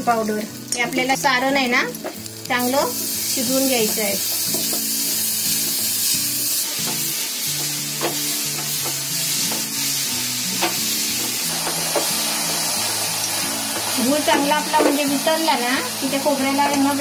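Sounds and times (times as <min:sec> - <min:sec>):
filling sizzling in a pan: 0:00.0 - 0:17.0.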